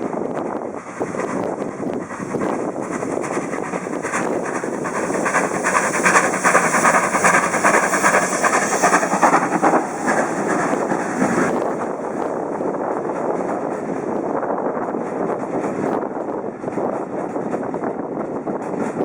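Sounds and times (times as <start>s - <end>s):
steam train passing: 0.0s - 19.0s
train wheels clicking over rail joints: 0.0s - 19.0s.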